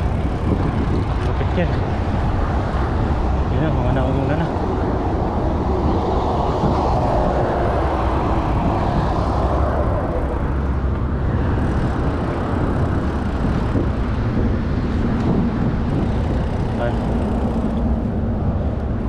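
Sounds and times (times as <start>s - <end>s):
wind over microphone: 0.0s - 19.0s.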